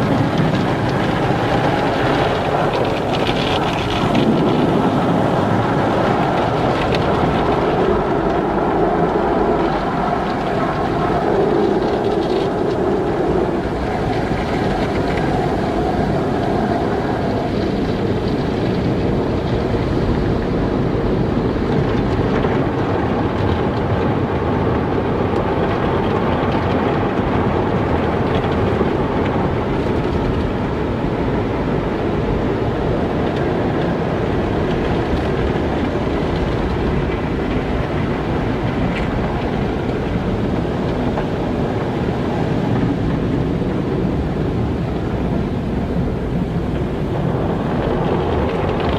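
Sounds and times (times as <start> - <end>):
car wash machinery running: 0.0 - 48.9.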